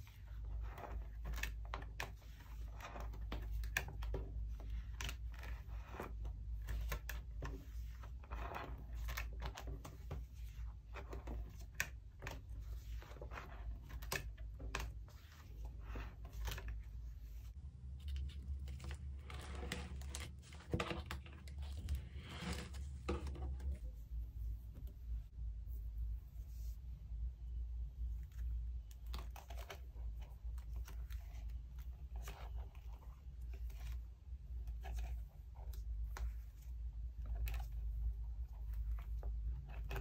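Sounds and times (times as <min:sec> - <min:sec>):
plastic sleeves rustling and crinkling: 0:00.0 - 0:27.2, 0:27.8 - 0:40.0.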